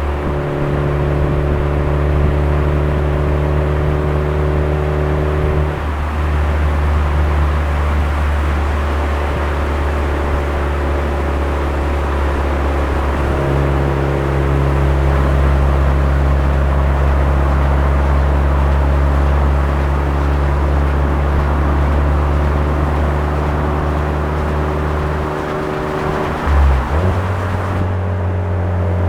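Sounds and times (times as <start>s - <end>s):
car engine and exhaust cruising: 0.0s - 29.0s.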